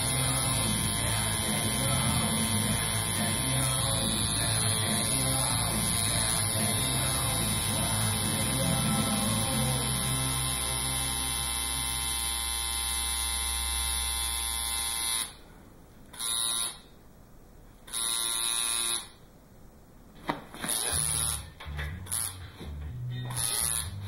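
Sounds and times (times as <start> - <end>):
tattoo machine buzzing: 0.0 - 15.4, 16.2 - 16.9, 17.9 - 19.2, 20.7 - 22.4, 23.3 - 24.0.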